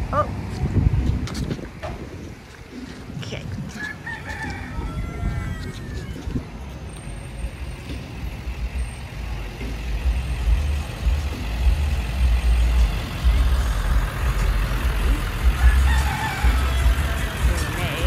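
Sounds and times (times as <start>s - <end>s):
bus engine rumbling: 0.0s - 18.0s
road traffic noise: 0.0s - 18.0s.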